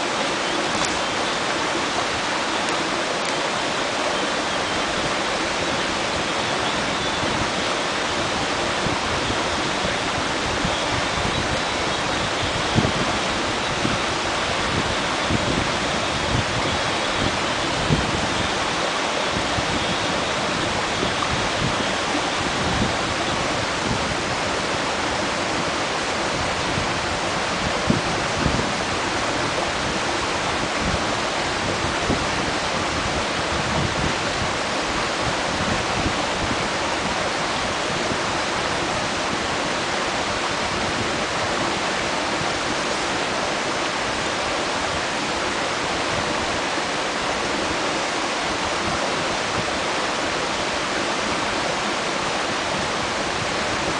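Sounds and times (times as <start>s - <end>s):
stream rushing: 0.0s - 53.9s.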